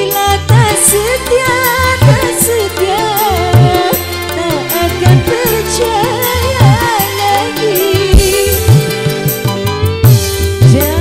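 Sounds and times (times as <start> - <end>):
woman singing: 0.0 - 9.3, 10.6 - 11.0.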